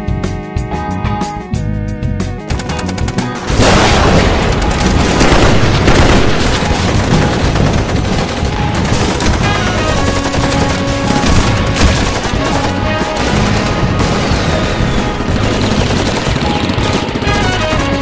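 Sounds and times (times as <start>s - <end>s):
music: 0.0s - 18.0s
crackle of rapid sharp bangs: 2.5s - 18.0s.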